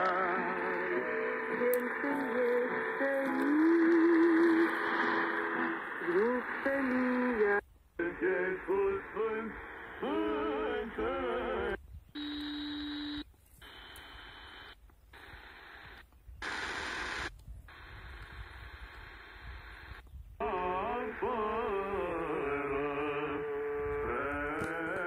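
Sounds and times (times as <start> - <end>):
radio static hiss with whistle: 0.0 - 25.0
steady radio tone: 0.0 - 25.0.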